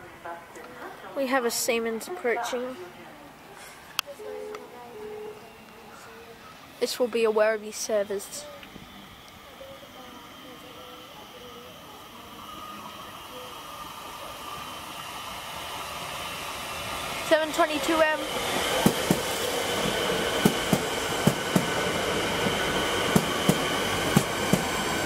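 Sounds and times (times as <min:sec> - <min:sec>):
train rumble with motor whine: 0:03.3 - 0:25.0.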